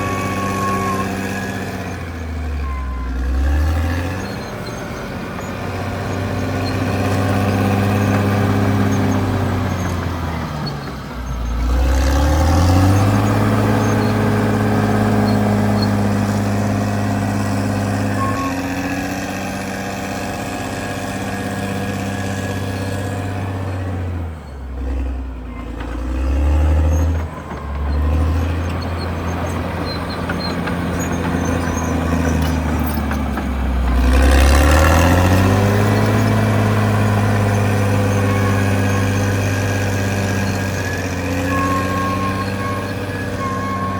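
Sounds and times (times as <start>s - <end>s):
bulldozer diesel engine under load: 0.0s - 43.9s.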